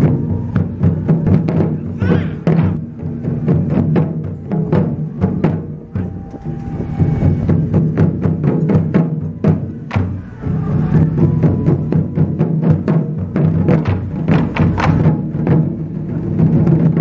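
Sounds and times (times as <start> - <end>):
taiko drums booming: 0.0 - 17.0.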